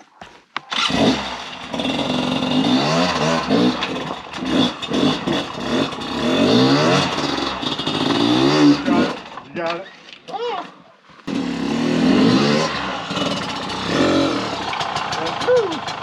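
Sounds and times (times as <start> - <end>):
dirt bike engine revving: 0.7 - 9.6, 11.2 - 16.0.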